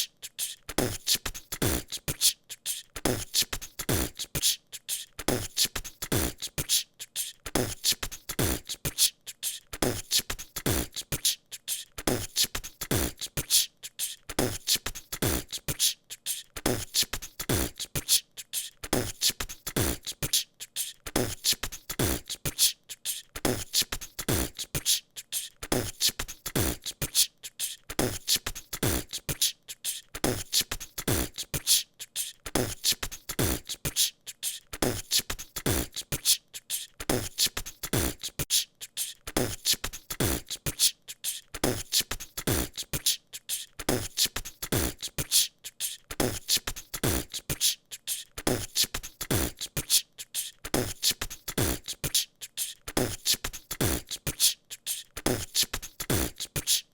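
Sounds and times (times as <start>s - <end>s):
person beatboxing: 0.0s - 56.9s.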